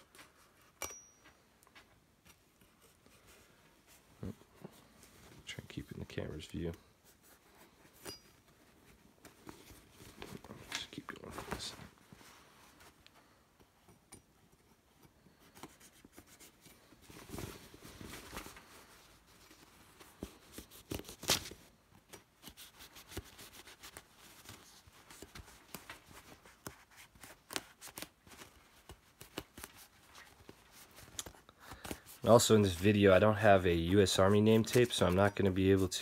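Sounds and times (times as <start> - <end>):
cloth handling: 0.0 - 36.0.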